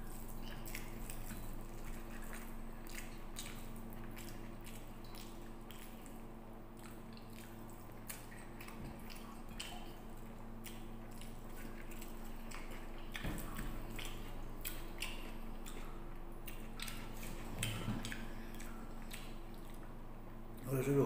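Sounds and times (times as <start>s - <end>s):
man chewing with wet mouth clicks: 0.0s - 20.7s.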